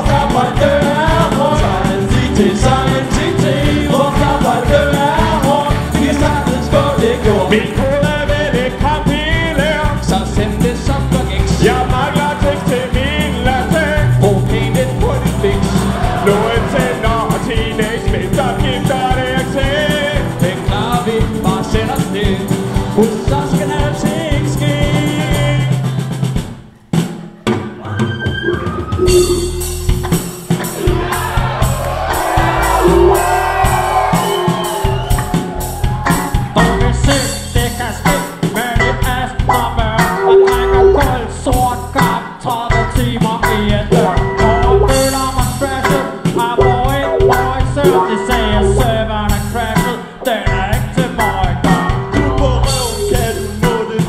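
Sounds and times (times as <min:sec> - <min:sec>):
singing into microphones: 0:00.0 - 0:26.1, 0:30.8 - 0:54.0
drums: 0:00.0 - 0:54.0.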